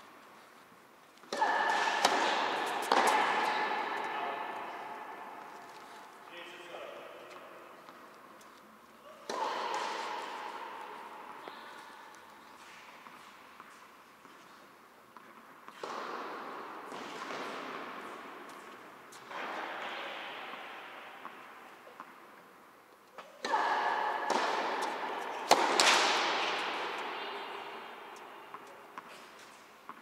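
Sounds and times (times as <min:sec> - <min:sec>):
tennis racket hitting ball: 0:01.2 - 0:06.2, 0:09.2 - 0:14.4, 0:15.2 - 0:22.4, 0:23.2 - 0:30.0.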